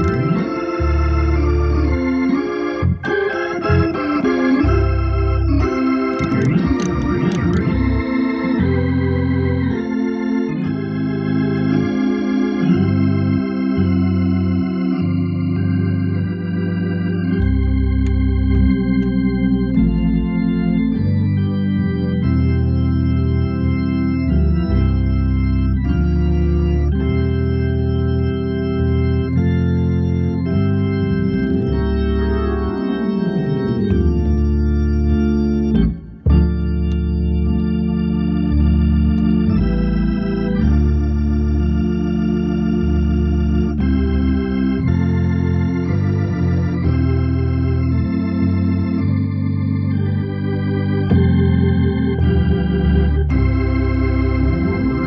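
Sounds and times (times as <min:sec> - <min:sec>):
bass line: 0:00.0 - 0:55.0
organ playing sustained chords: 0:00.0 - 0:55.0.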